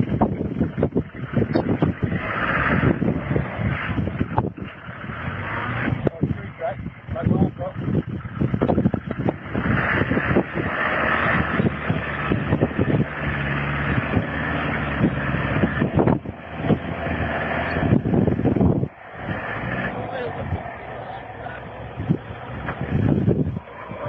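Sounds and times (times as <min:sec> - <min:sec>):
knocks and buffeting: 0:00.0 - 0:24.0
vehicle engine under load: 0:00.0 - 0:24.0.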